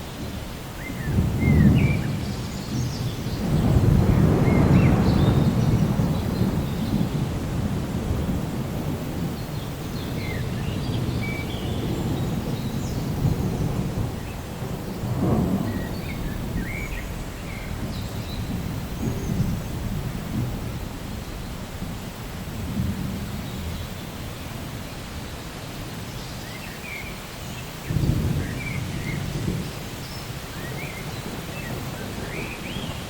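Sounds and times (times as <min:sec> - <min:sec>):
rain falling: 0:00.0 - 0:33.0
rolling thunder: 0:00.8 - 0:26.6, 0:27.8 - 0:33.0.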